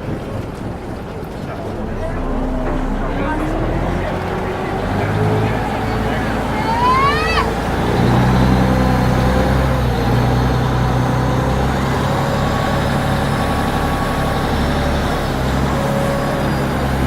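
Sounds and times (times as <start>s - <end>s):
boat engine droning: 0.0s - 17.0s
water wash: 0.0s - 17.0s.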